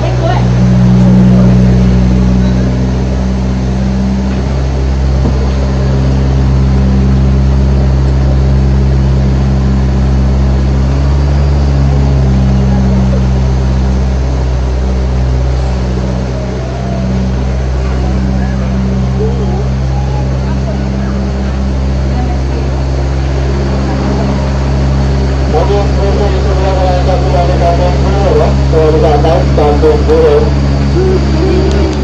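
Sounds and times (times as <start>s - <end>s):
tram engine droning: 0.0s - 32.0s.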